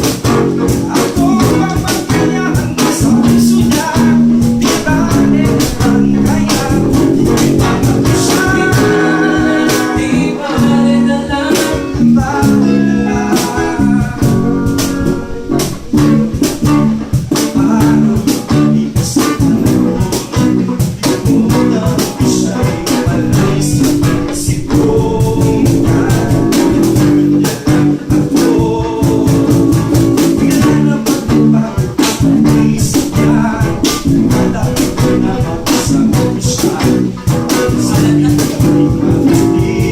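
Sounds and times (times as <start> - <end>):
drums with cymbals: 0.0 - 39.9
electric guitar: 0.0 - 39.9
person singing: 0.7 - 39.9.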